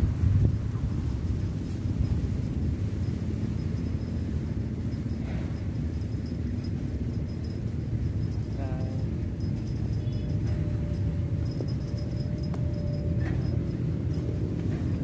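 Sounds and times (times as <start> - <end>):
low outdoor rumble: 0.0 - 15.0
faint steady tone: 1.0 - 15.0.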